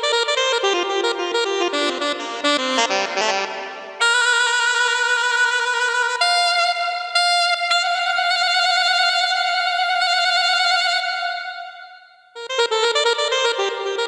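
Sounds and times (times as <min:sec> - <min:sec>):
electronic keyboard solo notes: 0:00.0 - 0:11.6, 0:12.4 - 0:14.0.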